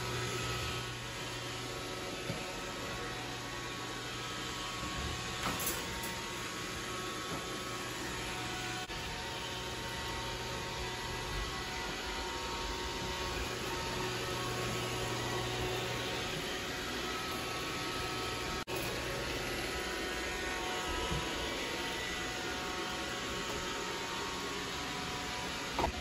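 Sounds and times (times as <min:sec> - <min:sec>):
robot vacuum humming: 0:00.0 - 0:26.0.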